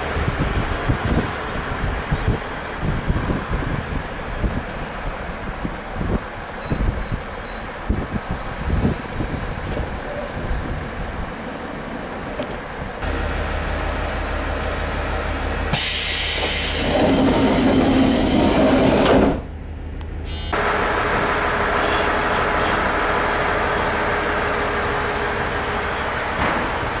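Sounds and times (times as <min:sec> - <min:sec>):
diesel railcar engine hum: 0:00.0 - 0:27.0
train running noise hissing rush: 0:00.0 - 0:27.0.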